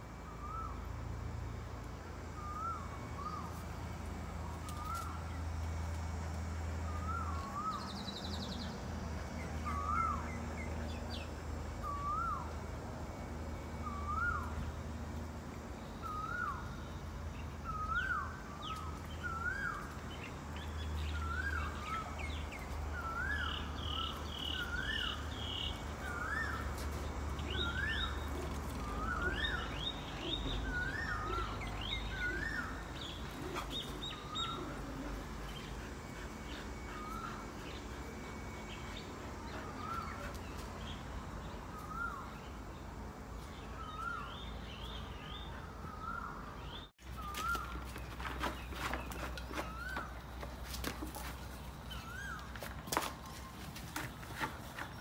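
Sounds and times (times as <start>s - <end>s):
low steady hum: 0.0s - 55.0s
birds chirping: 0.3s - 55.0s.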